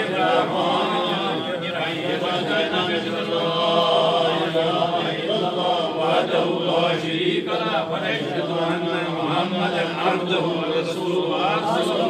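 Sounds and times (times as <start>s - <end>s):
men chanting prayers: 0.0s - 12.0s.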